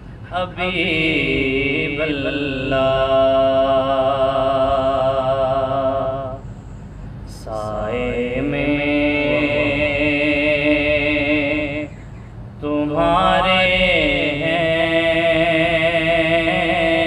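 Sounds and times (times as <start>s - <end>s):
man chanting: 0.3s - 6.4s, 7.3s - 11.9s, 12.6s - 17.0s.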